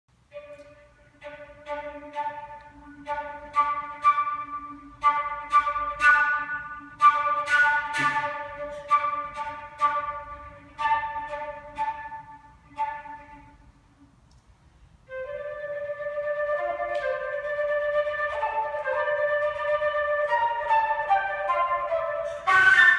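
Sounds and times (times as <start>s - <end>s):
flute playing short notes: 0.3s - 13.7s, 15.1s - 22.9s.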